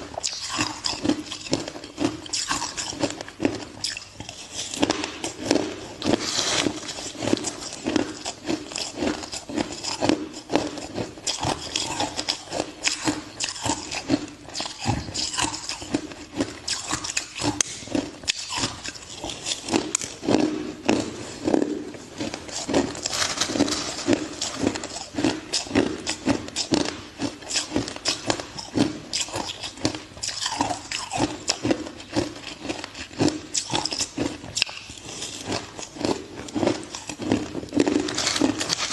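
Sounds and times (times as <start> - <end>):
person crunching ice: 0.0 - 38.9.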